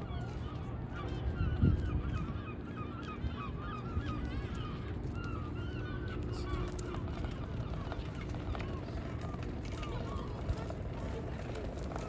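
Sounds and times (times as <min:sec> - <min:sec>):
waterbirds calling: 0:00.0 - 0:12.0
wind and water rumble: 0:00.0 - 0:12.0.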